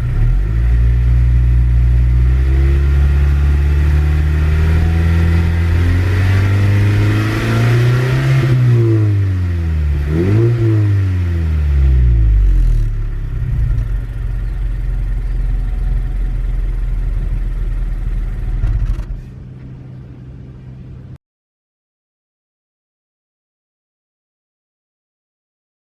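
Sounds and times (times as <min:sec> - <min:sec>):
car engine revving and idling: 0:00.0 - 0:21.2.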